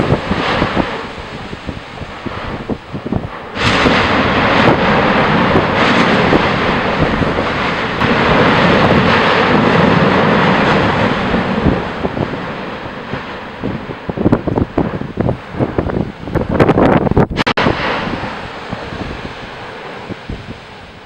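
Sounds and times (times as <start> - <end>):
rush of venting gas: 0.0 - 21.0
volcano explosion blast: 0.0 - 21.0.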